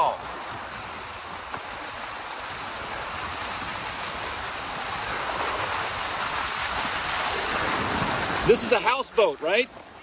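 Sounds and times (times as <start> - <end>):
muddy water rushing and splashing: 0.0 - 10.0.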